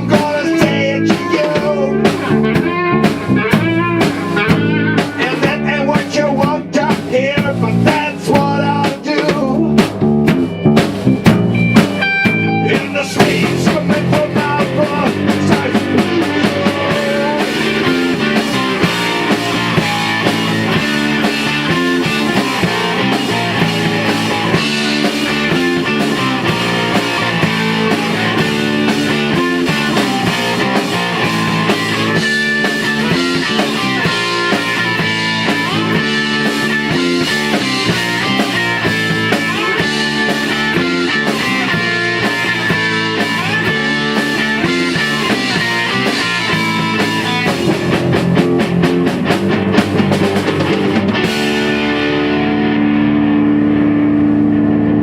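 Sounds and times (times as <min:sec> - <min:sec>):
electric guitar: 0:00.0 - 0:55.0
rock band playing: 0:00.0 - 0:55.0.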